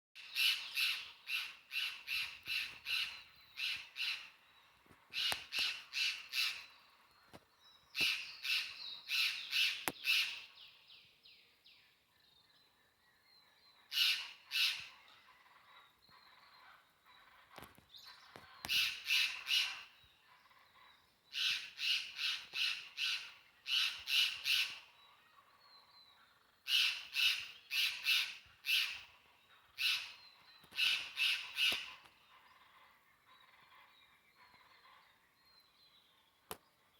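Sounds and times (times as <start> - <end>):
faint bird calls: 0.2 - 10.8, 12.4 - 36.9.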